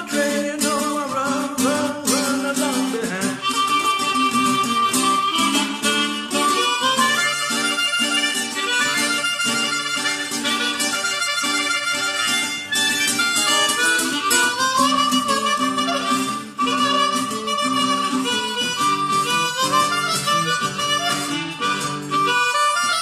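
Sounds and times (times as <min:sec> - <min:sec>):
blues harmonica solo: 0:00.0 - 0:23.0
strummed acoustic guitar: 0:00.0 - 0:23.0.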